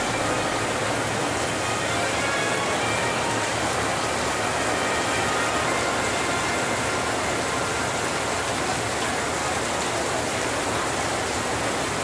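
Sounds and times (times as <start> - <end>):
torrential rain: 0.0 - 12.0.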